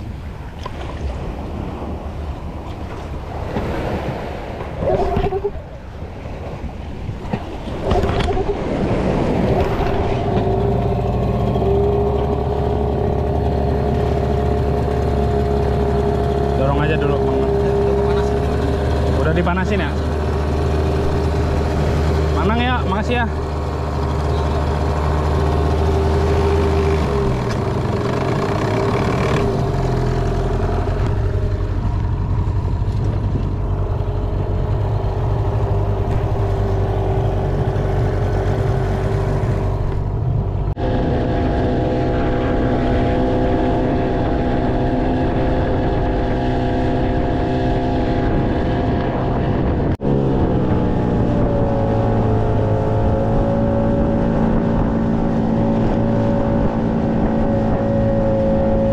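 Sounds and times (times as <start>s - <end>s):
outboard motor running: 0.2s - 58.9s.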